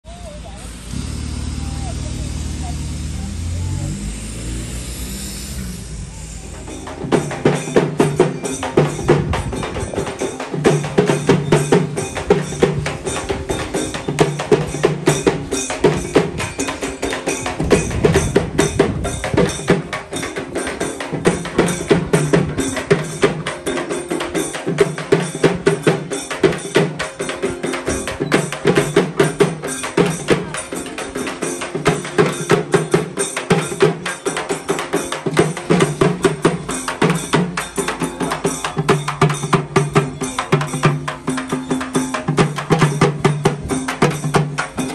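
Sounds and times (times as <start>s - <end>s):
fast dense drumming: 5.8s - 44.9s.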